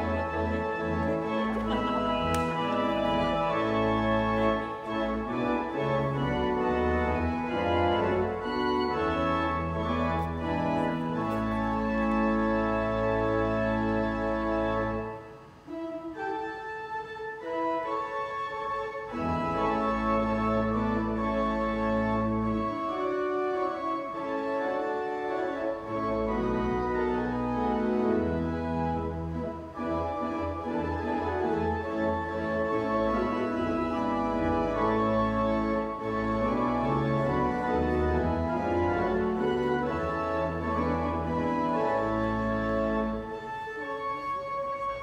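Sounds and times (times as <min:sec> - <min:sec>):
pipe organ playing chords: 0:00.0 - 0:45.0.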